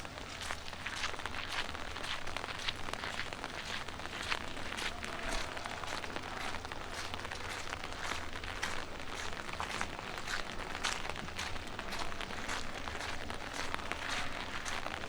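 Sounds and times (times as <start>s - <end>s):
footsteps on wet pavement: 0.0s - 15.0s
light rain patter: 0.0s - 15.0s.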